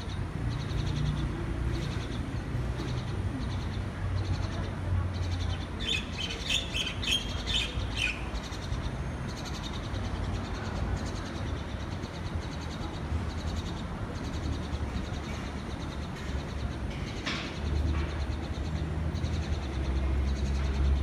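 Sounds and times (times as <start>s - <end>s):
birds chirping: 0.0s - 21.0s
low rumble of city traffic: 0.0s - 21.0s.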